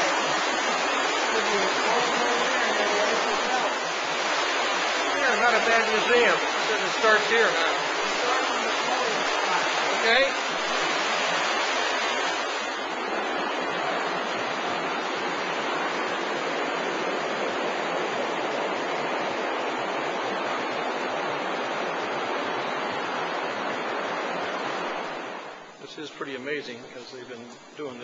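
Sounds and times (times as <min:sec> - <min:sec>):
wastewater rushing in sewer: 0:00.0 - 0:26.3.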